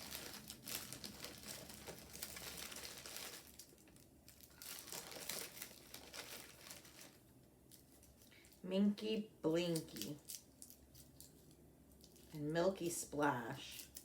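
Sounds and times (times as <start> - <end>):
plastic candy wrappers crinkling: 0.0 - 8.6, 9.7 - 12.4.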